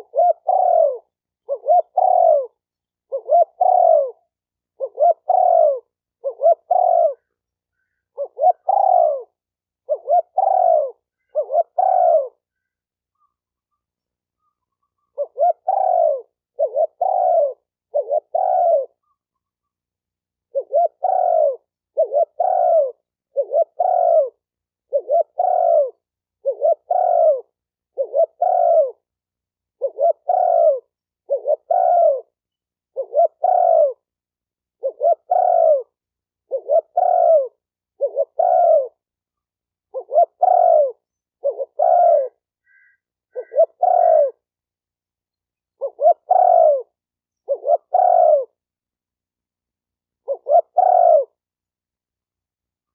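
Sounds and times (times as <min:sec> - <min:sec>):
dove cooing: 0:00.0 - 0:34.1, 0:34.7 - 0:39.2, 0:39.8 - 0:44.5, 0:45.7 - 0:48.7, 0:50.2 - 0:51.5.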